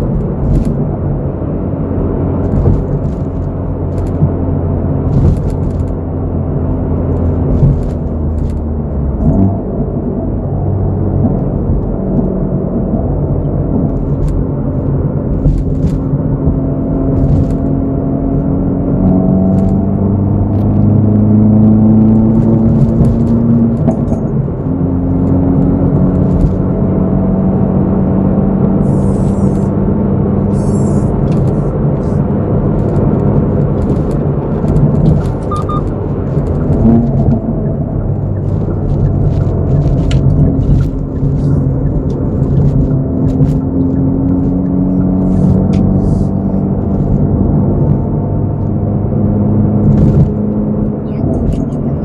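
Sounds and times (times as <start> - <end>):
car engine droning: 0.0 - 52.0.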